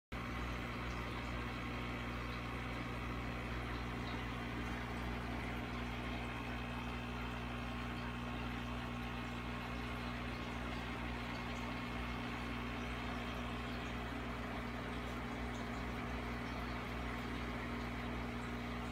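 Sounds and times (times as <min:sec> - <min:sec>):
aquarium equipment humming: 0:00.2 - 0:18.9.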